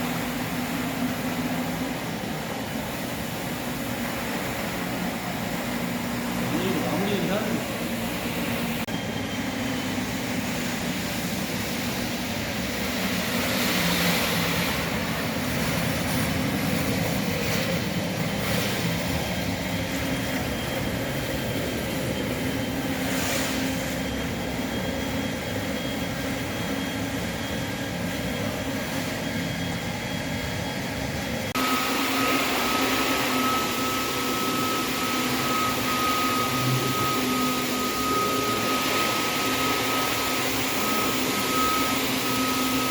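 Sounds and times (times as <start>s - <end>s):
vacuum motor whining: 0.0s - 42.9s.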